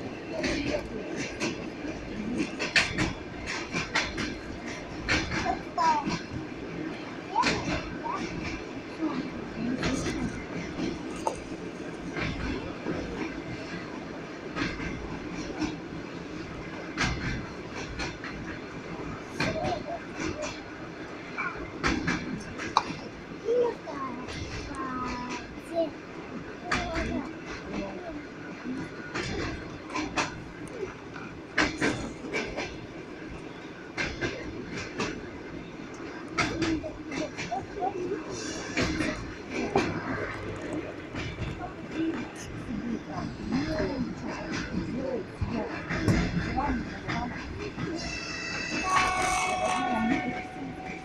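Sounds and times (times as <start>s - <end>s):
train rumble inside carriage: 0.0s - 51.0s.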